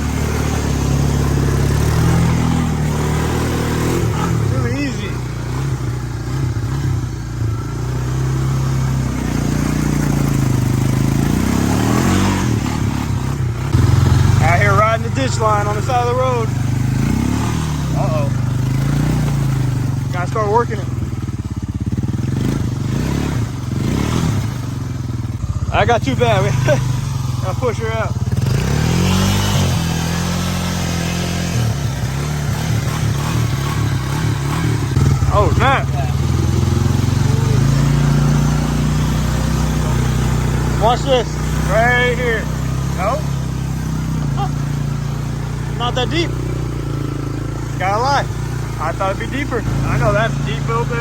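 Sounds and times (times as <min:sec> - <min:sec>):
off-road engine running: 0:00.0 - 0:51.0.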